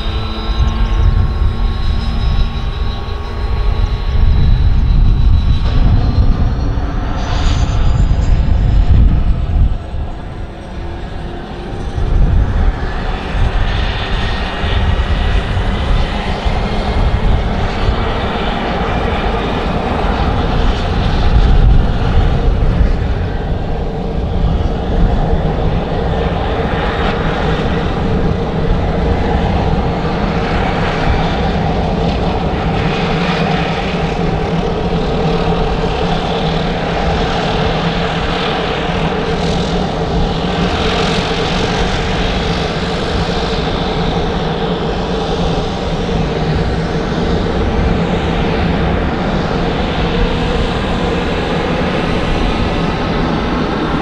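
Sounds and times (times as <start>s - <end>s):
turboprop engine droning: 0.0s - 54.0s.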